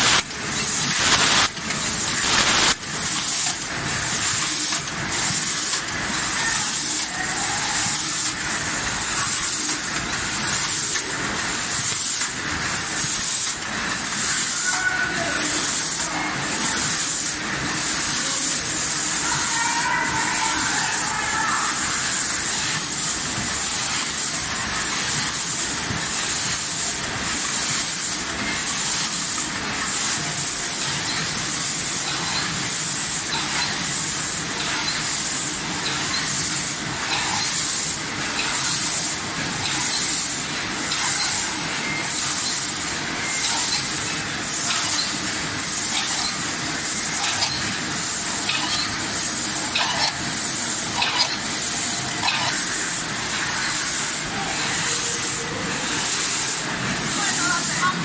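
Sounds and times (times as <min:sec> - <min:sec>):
packaging machinery pulsing hiss: 0:00.0 - 0:58.0.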